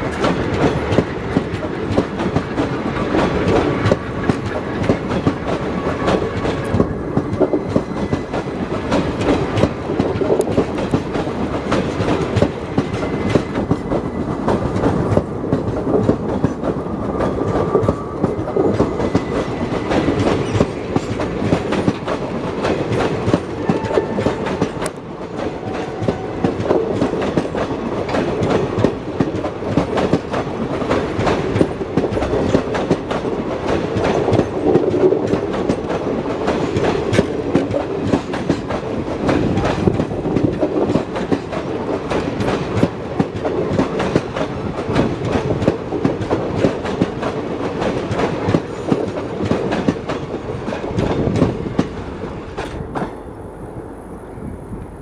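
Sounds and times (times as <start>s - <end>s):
train wheels clattering over rail joints: 0.0s - 53.2s.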